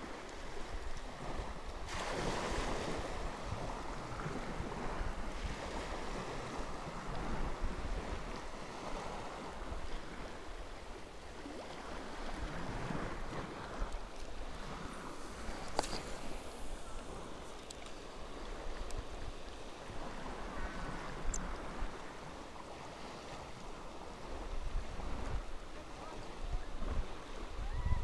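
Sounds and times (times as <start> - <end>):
sea water lapping at shore: 0.0 - 28.0
wind rumbling on microphone: 0.0 - 28.0.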